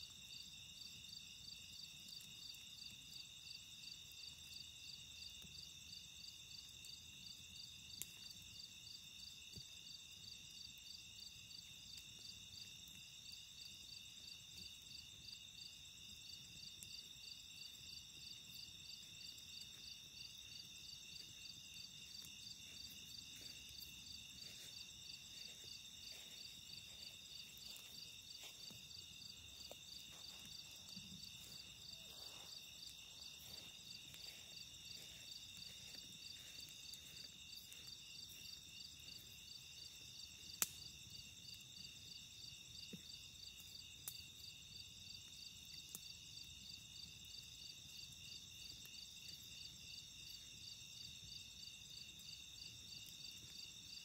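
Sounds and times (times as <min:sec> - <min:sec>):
campfire crackling: 0:00.0 - 0:54.0
night insects trilling: 0:00.0 - 0:54.0.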